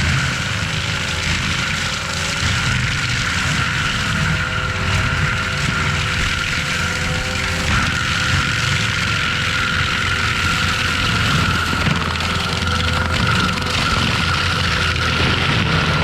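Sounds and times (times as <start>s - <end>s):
engine rumble: 0.0s - 16.0s
mulcher head high whine: 0.0s - 16.0s.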